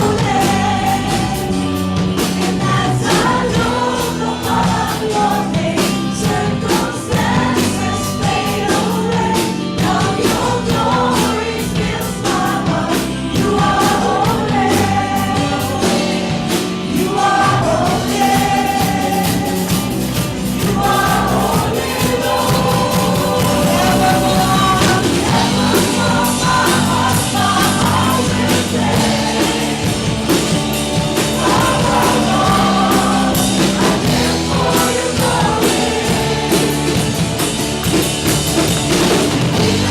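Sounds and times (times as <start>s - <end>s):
band with drums: 0.0s - 39.9s
congregation singing: 0.0s - 39.9s.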